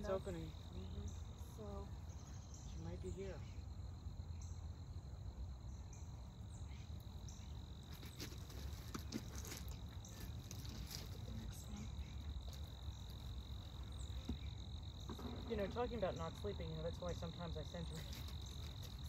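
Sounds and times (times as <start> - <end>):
high insect trill: 0.0 - 19.0
honeybees humming: 0.0 - 19.0.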